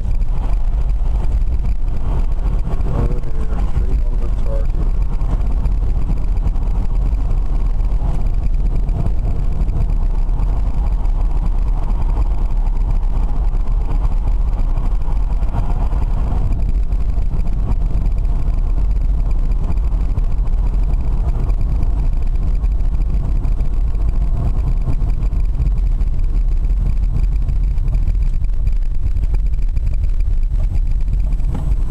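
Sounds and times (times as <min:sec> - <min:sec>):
road and wind noise of driving car: 0:00.0 - 0:31.9.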